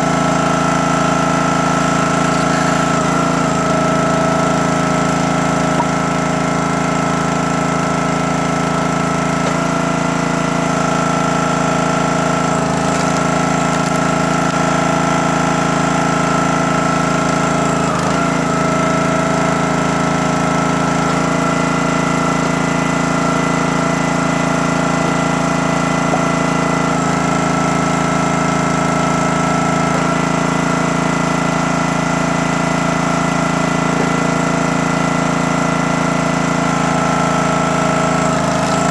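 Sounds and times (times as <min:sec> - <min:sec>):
log splitter engine and pump: 0:00.0 - 0:38.9.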